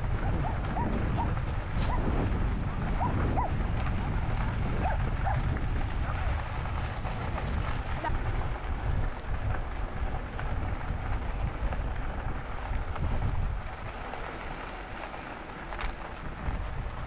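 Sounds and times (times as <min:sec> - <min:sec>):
road noise rumbling: 0:00.0 - 0:17.0
wind buffeting microphone: 0:00.0 - 0:17.0.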